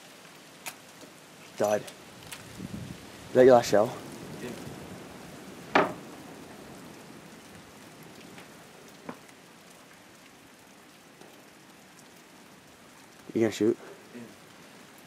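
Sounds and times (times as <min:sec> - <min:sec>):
rain on wooden roof: 0:00.0 - 0:15.0.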